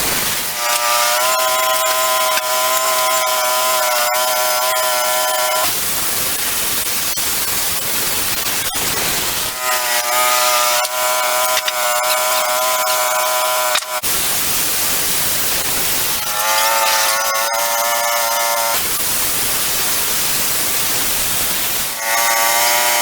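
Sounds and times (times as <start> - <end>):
band sawmill running: 0.0 - 23.0.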